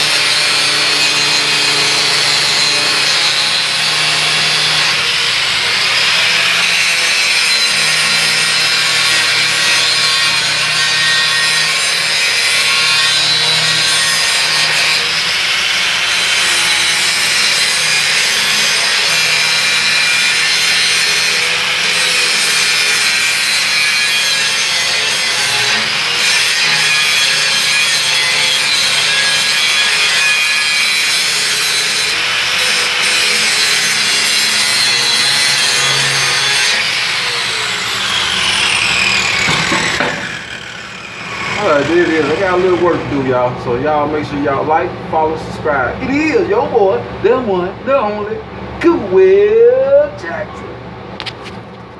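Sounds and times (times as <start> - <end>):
angle grinder grinding steel: 0.0 - 48.2.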